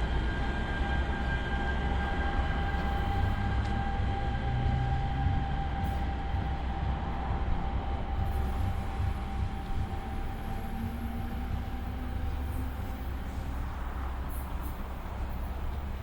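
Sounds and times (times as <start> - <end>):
steady train whine: 0.0 - 16.0
train rumbling: 0.0 - 16.0.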